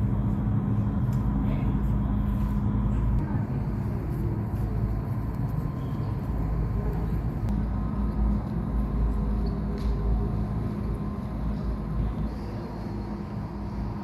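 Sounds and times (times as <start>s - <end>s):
faint hum: 0.0s - 14.0s
low rumble of indoor hall: 0.0s - 14.0s.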